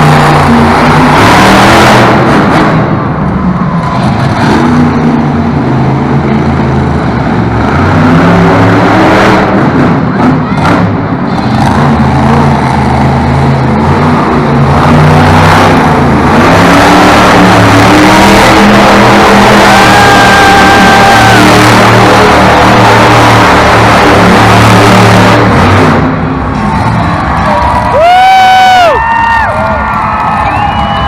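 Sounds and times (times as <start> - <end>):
truck engine revving hard: 0.0 - 31.0.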